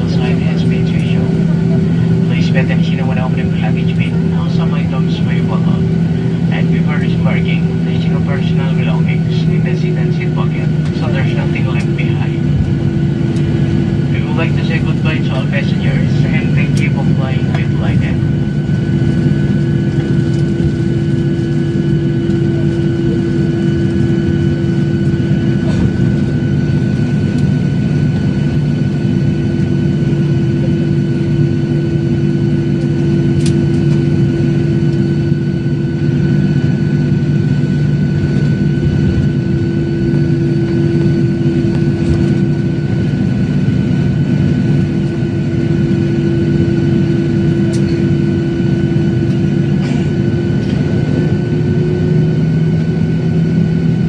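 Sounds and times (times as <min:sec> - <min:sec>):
jet engines idling in cabin: 0:00.0 - 0:54.0.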